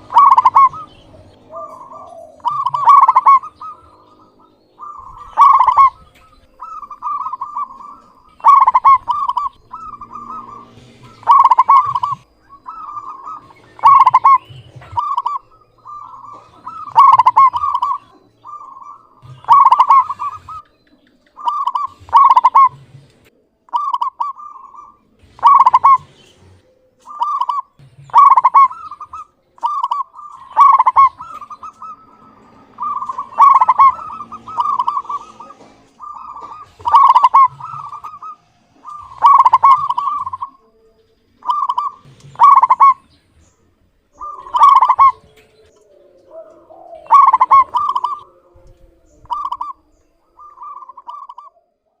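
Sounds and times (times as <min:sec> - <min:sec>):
dove cooing: 0:00.0 - 0:23.0, 0:23.7 - 0:43.2, 0:44.0 - 0:52.0.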